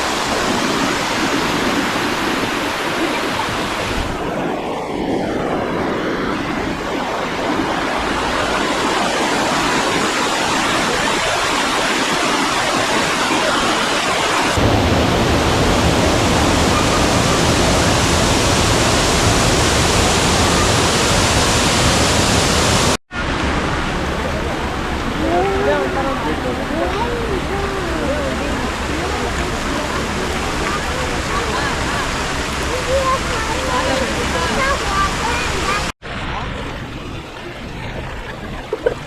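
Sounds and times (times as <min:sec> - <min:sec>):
fountains splashing: 0:00.0 - 0:39.0.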